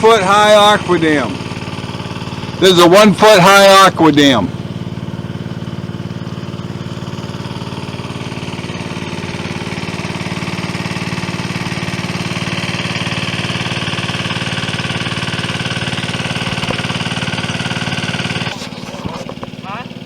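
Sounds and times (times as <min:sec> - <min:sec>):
water pump engine running: 0:00.0 - 0:20.0.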